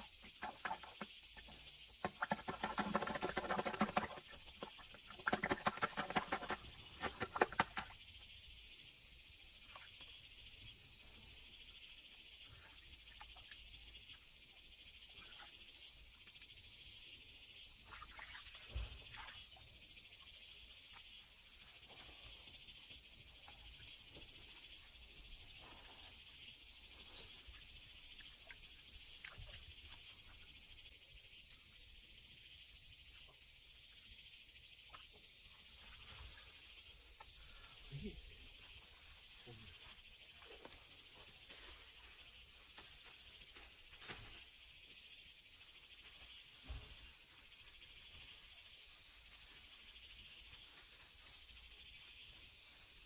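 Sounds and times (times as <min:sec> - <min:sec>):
insects chorus: 0:00.0 - 0:53.0
pulsing insect call: 0:00.0 - 0:53.0.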